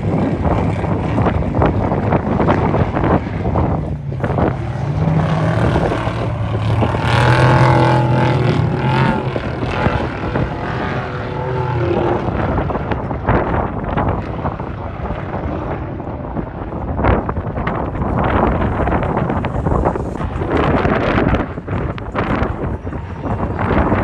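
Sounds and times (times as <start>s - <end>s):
race vehicle engine running loudly: 0.0s - 24.0s.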